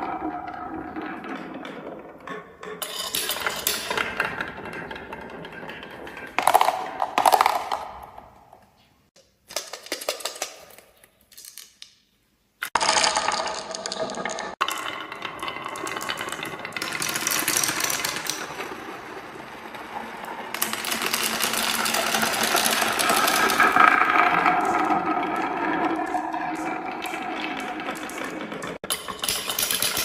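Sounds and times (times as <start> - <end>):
marbles clattering down a run: 0.0 - 8.5, 12.7 - 30.0.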